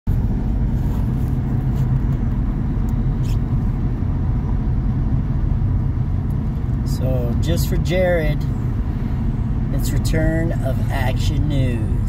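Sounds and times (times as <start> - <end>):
car road and engine rumble: 0.1 - 12.0.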